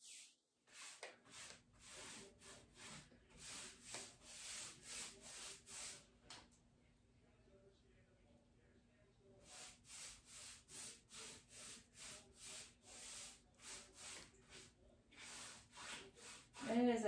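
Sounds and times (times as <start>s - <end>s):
brush scrubbing on painted wood: 0.0s - 6.1s, 9.4s - 17.0s.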